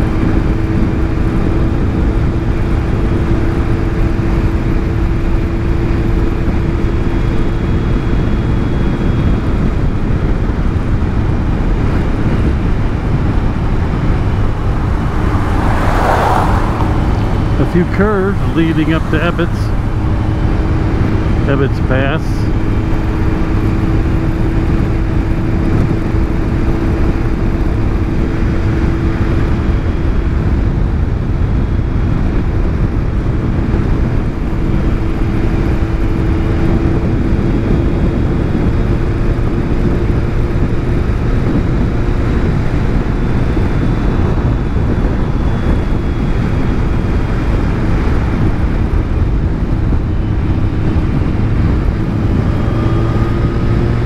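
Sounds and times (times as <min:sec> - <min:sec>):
motorcycle engine hum: 0:00.0 - 0:54.0
wind rush: 0:00.0 - 0:54.0.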